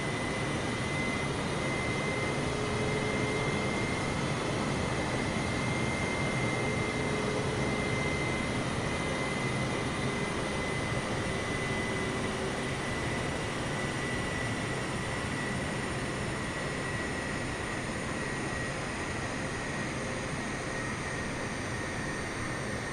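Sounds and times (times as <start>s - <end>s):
jet engines running: 0.0s - 22.9s.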